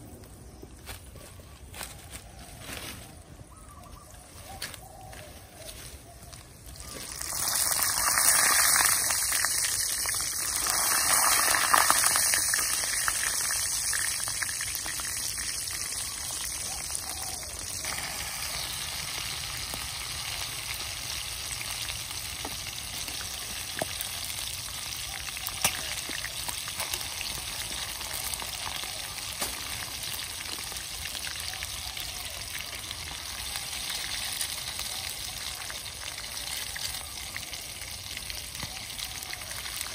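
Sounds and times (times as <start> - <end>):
frying in hot oil sizzling: 6.3 - 39.9.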